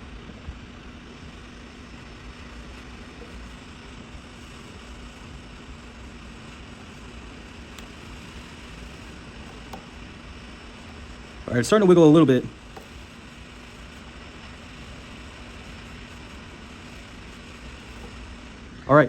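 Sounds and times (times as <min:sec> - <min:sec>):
heat gun blowing: 0:00.0 - 0:18.8.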